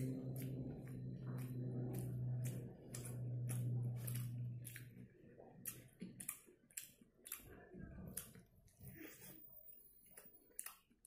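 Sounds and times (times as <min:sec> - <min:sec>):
steady low hum: 0:00.0 - 0:10.6
crunchy chewing: 0:00.0 - 0:11.0.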